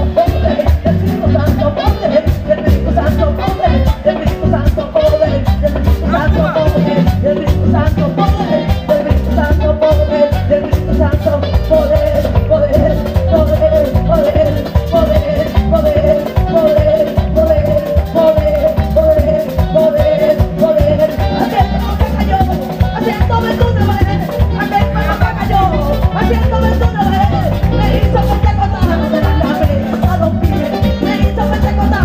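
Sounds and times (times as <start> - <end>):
latin worship band playing: 0.0 - 32.0
woman singing through a microphone: 0.0 - 32.0.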